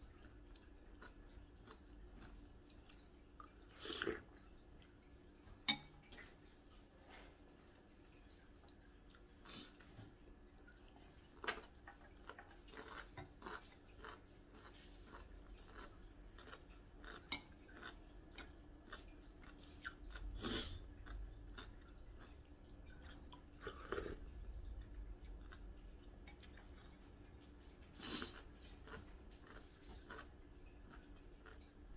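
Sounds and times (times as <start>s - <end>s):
quiet chewing: 0.0s - 31.9s.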